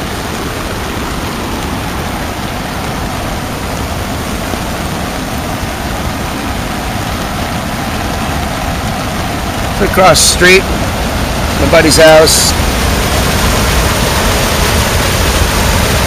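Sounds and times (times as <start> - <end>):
floodwater rushing: 0.0 - 16.0
rain falling: 0.0 - 16.0.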